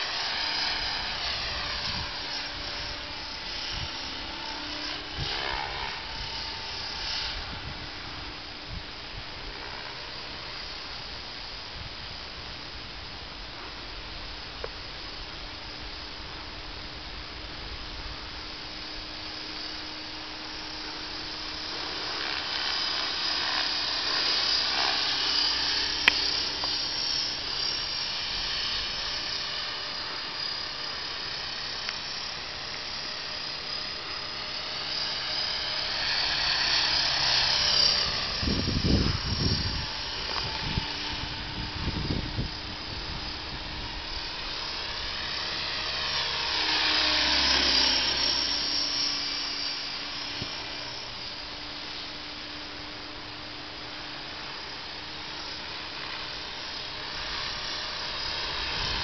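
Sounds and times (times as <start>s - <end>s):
rc helicopter whine: 0.0s - 59.0s.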